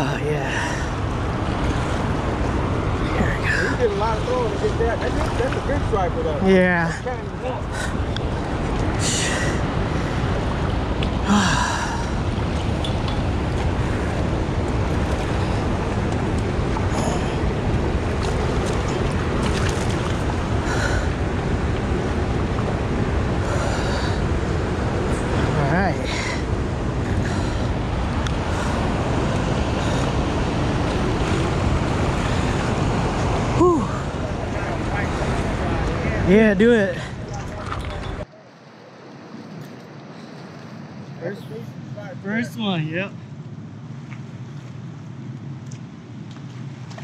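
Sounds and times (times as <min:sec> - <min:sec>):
wind on the microphone: 0:00.0 - 0:38.3
river water rushing: 0:00.0 - 0:42.0.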